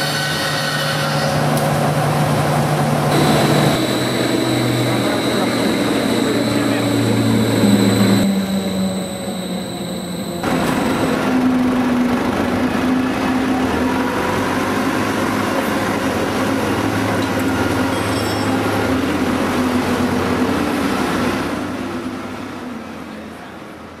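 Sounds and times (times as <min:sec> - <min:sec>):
factory machinery running: 0:00.0 - 0:24.0.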